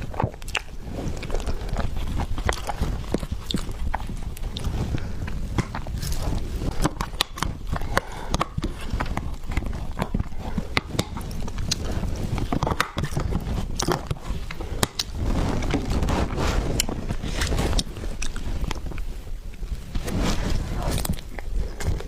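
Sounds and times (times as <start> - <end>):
close-miked chewing: 0.0 - 22.0.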